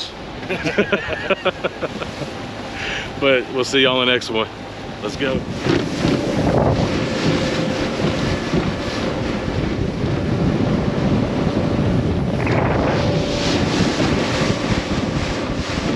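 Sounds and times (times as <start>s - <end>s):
wind buffeting microphone: 0.0s - 15.9s
faint motor hum: 0.1s - 15.9s.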